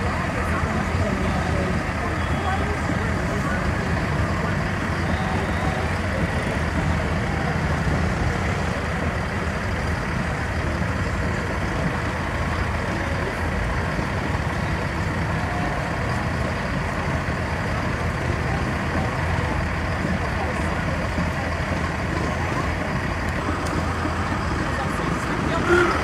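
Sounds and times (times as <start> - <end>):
vehicles driving slowly past: 0.0 - 26.0.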